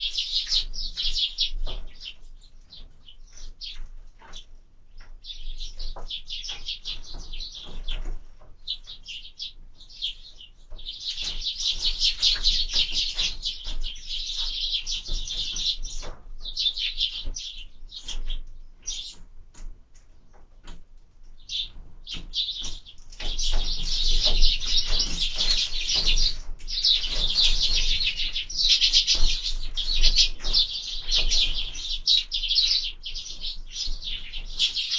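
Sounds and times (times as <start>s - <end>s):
sparrows chirping: 0.0s - 19.2s, 21.2s - 34.9s.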